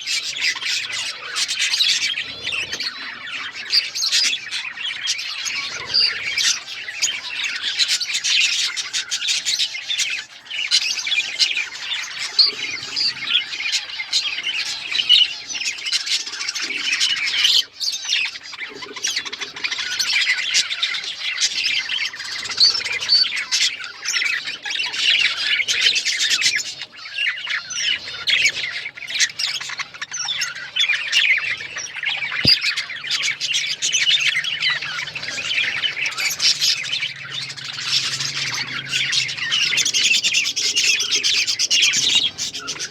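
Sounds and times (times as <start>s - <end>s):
budgerigars chattering: 0.0s - 42.9s.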